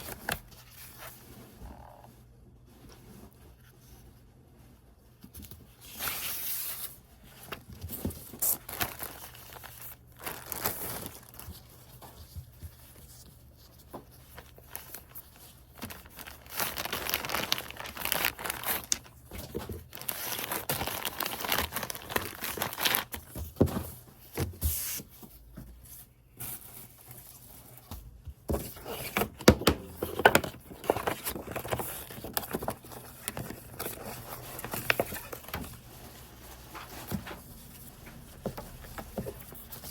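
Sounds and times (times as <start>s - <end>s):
crinkly rustling: 0.0s - 29.3s, 29.9s - 39.9s.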